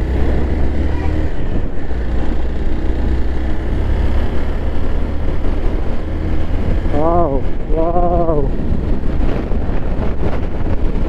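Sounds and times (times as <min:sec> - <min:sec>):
motorcycle running: 0:00.0 - 0:11.0
wind rushing over microphone: 0:00.0 - 0:11.0.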